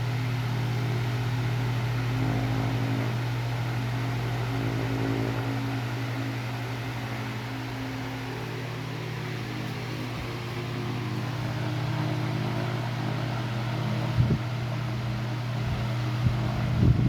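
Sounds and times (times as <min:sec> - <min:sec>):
fan motor hum: 0:00.0 - 0:17.0.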